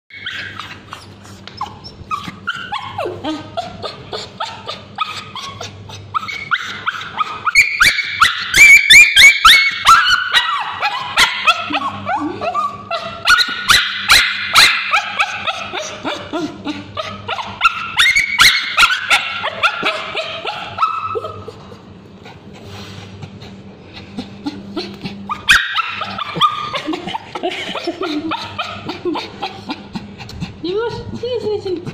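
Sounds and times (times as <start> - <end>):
dog yelping in distress: 0.1 - 21.6, 24.1 - 29.9.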